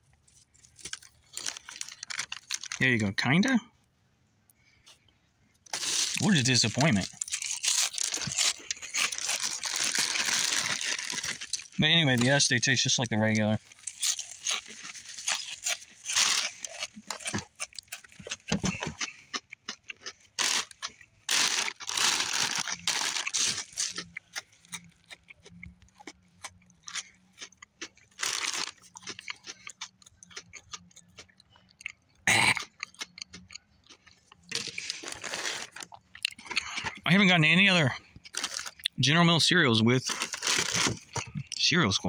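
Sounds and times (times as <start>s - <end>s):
cereal crunching: 0.3s - 3.0s, 5.6s - 31.4s, 32.6s - 36.9s, 38.3s - 39.0s, 39.9s - 41.6s.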